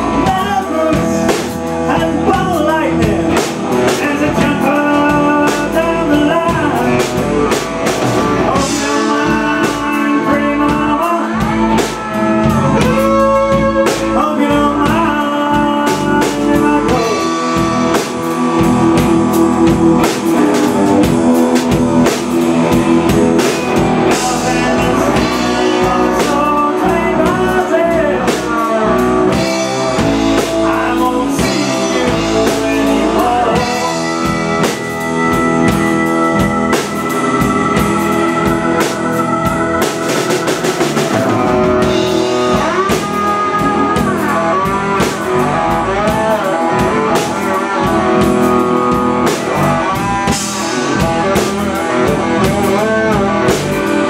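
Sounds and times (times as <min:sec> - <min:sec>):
live blues-rock band playing: 0:00.0 - 0:54.0.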